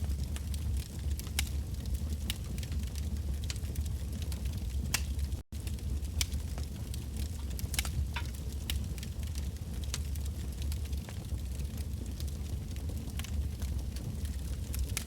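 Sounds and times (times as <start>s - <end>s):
bonfire rumble: 0.0s - 15.0s
crackles and pops of burning logs: 0.0s - 15.0s.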